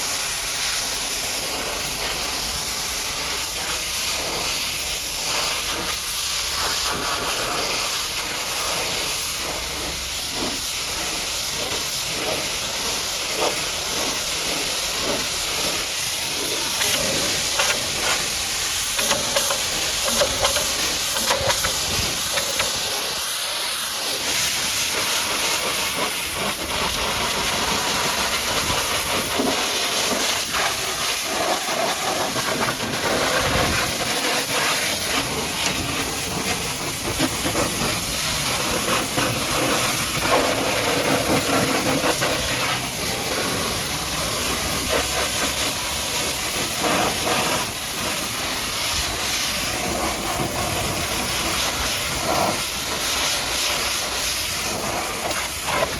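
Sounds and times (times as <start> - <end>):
pressure washer spraying water: 0.0 - 55.9.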